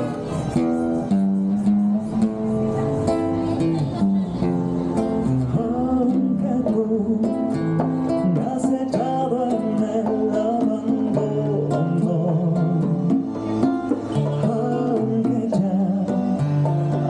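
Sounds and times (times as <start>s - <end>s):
acoustic guitars strumming: 0.0s - 17.0s
bass notes: 0.0s - 17.0s
plucked melody: 0.0s - 17.0s.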